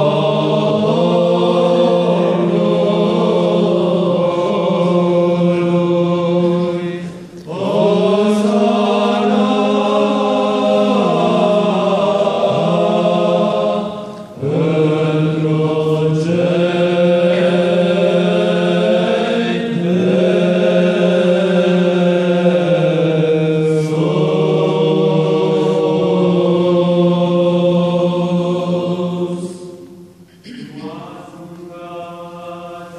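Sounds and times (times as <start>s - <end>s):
men chanting: 0.0s - 29.6s, 30.5s - 32.9s
low vocal drone: 0.0s - 29.8s.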